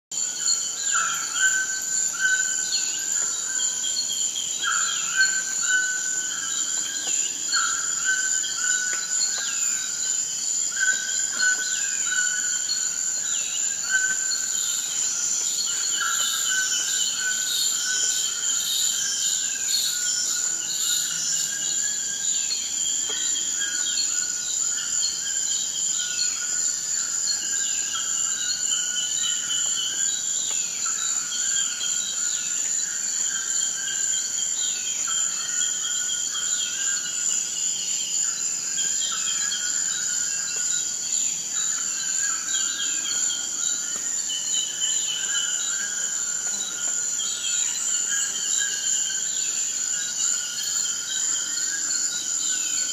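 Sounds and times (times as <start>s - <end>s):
high-pitched insect drone: 0.2s - 52.9s.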